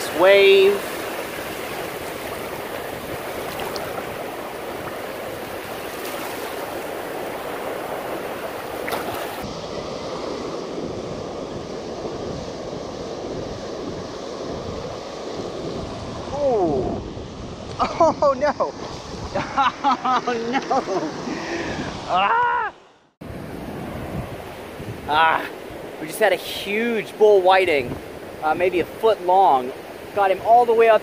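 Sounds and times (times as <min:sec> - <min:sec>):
surf washing over sand: 0:00.0 - 0:22.3, 0:23.2 - 0:31.0.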